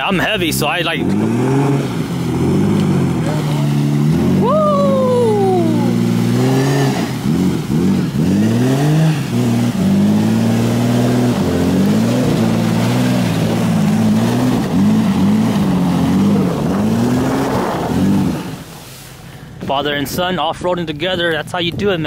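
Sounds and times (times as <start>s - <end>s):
engine revving: 0.0s - 18.7s.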